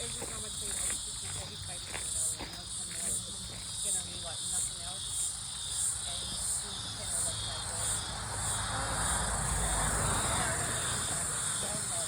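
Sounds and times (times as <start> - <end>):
insects buzzing in pulses: 0.0 - 12.0.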